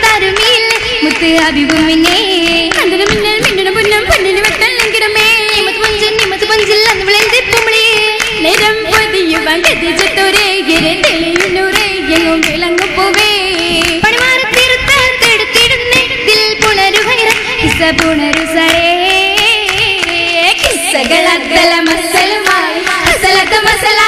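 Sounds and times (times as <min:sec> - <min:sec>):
girls singing together: 0:00.0 - 0:24.0
rhythmic hand clapping: 0:00.0 - 0:24.0.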